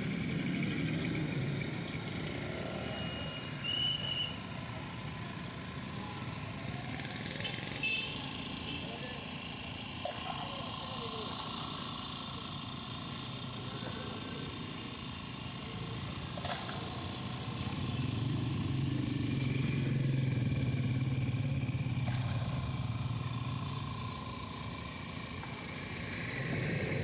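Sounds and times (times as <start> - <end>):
vehicle engine hum: 0.0 - 27.0.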